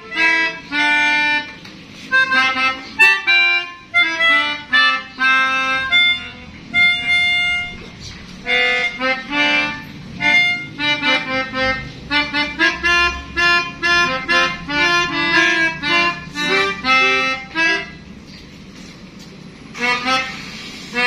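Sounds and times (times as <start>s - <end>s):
melodica playing short notes: 0.0s - 18.1s, 19.7s - 21.0s.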